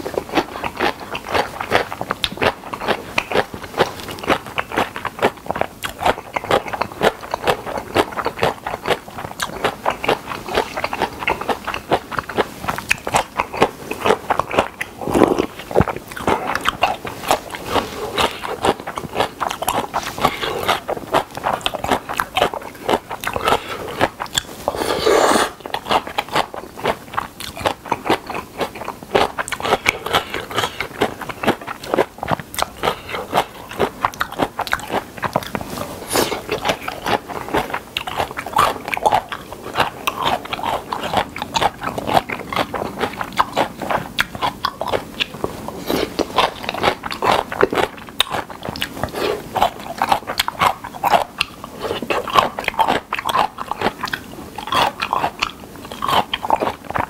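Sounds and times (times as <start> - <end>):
wet chewing clicks and bites: 0.0 - 57.0.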